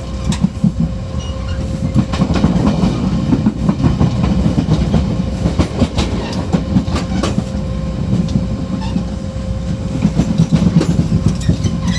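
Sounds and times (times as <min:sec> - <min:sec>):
train low rumble: 0:00.0 - 0:11.9.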